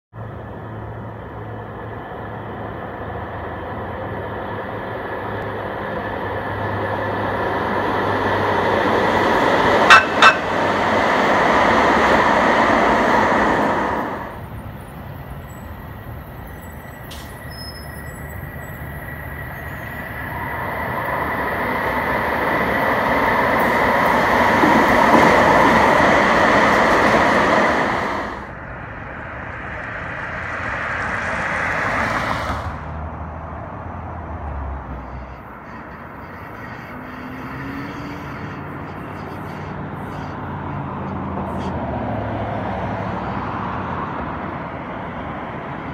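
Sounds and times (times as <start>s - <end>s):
light-rail train passing: 0.2s - 37.8s, 38.6s - 45.9s.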